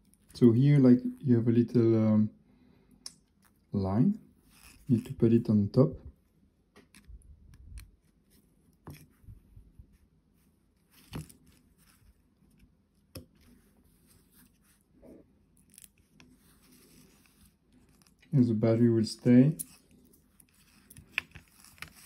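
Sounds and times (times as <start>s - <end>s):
soft rubbing and crinkling: 3.3s - 22.0s.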